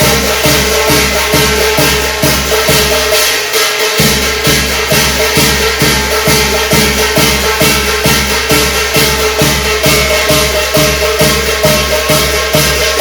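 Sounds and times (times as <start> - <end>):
shaken rattle or jingle: 0.0 - 13.0
steady percussion strokes: 0.0 - 13.0.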